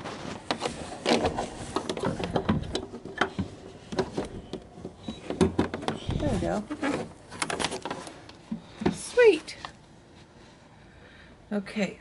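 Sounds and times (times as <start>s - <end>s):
hands handling power cord: 0.0s - 9.8s.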